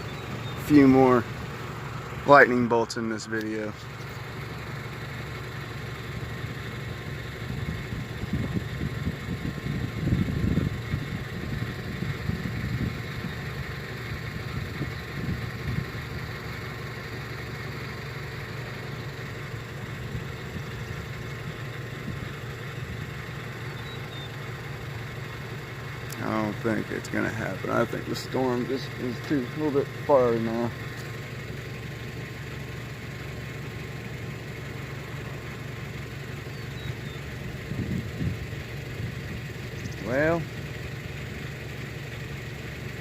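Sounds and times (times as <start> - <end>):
car engine idling: 0.0 - 43.0
irregular low rumbling: 0.0 - 43.0.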